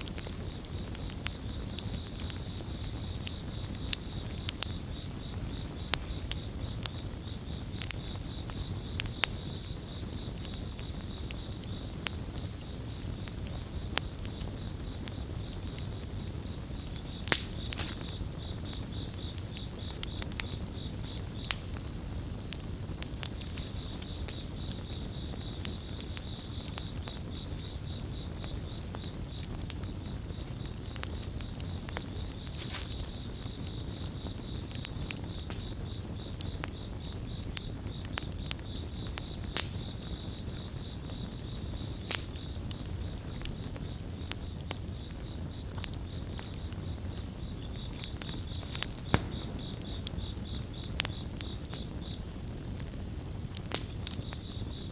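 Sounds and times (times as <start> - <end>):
campfire crackling and popping: 0.0 - 54.9
crickets chirping: 0.0 - 54.9.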